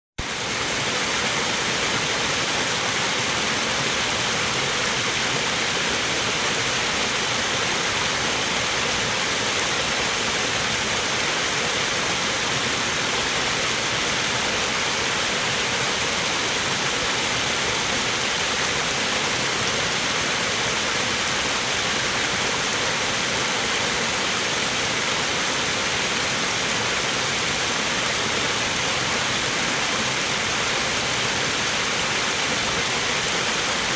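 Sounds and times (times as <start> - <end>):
waterfall pouring into pond: 0.2 - 33.9.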